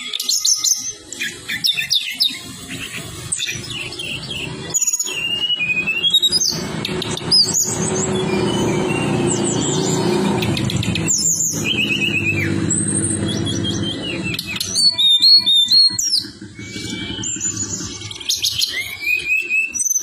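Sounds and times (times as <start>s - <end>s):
songbird chirps and trills: 0.0s - 20.0s.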